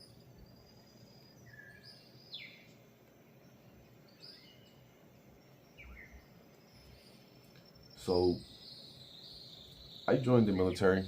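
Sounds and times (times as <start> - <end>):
faint bird chirps: 0.0 - 11.0
low steady hiss: 0.0 - 11.0.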